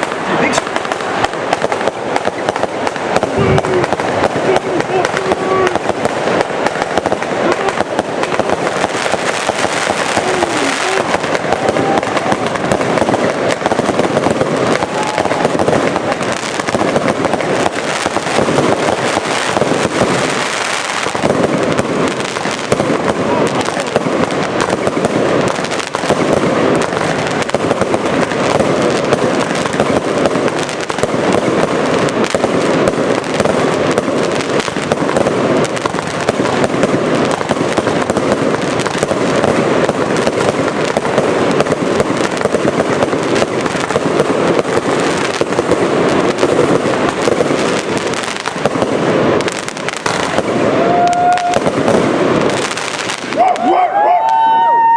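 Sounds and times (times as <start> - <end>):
fireworks crackling: 0.0 - 54.9.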